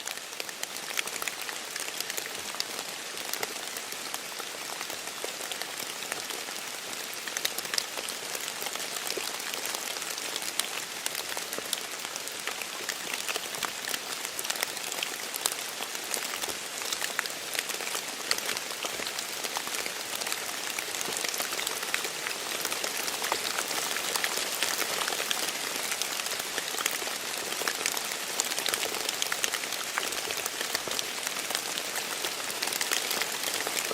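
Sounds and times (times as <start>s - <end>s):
light rain pattering: 0.0s - 33.9s
water dripping into puddles: 0.0s - 33.9s.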